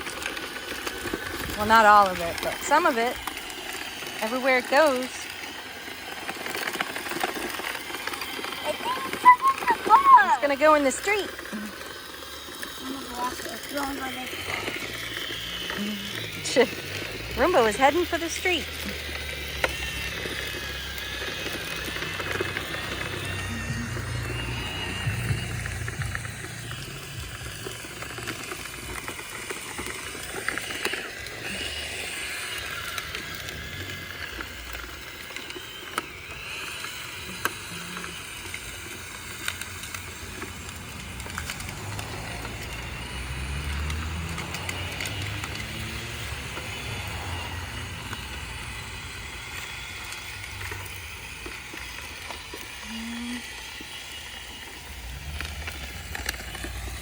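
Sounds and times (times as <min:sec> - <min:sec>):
robot vacuum whirring: 0:00.0 - 0:57.0.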